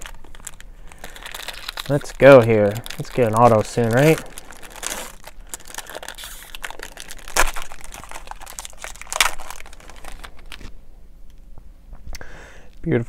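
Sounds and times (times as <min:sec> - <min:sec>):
plastic wrapper crinkling: 0:00.0 - 0:10.8
wrapper crackles: 0:00.0 - 0:10.8.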